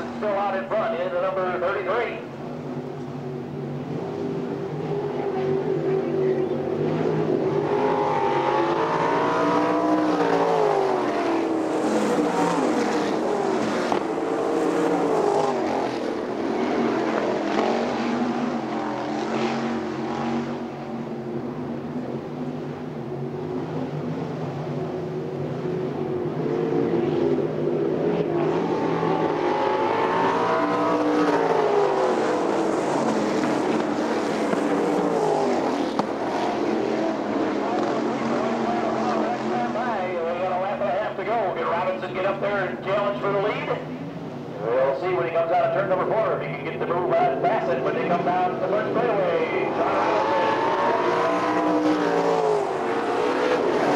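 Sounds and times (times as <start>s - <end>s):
race car engines roaring: 0.0s - 53.9s.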